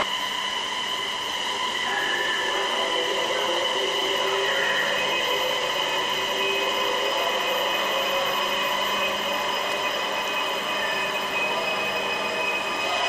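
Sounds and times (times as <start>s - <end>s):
electric train whine and hum: 0.0s - 13.0s.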